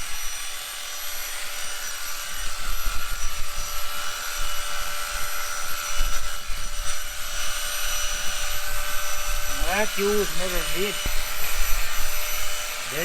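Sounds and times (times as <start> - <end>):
electric clippers whining: 0.0 - 13.0.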